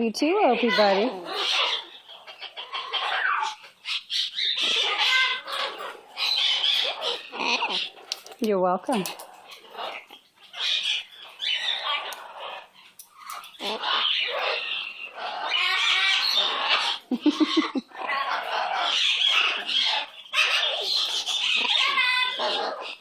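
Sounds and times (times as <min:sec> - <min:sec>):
parrot chattering and squawking: 0:00.2 - 0:23.0.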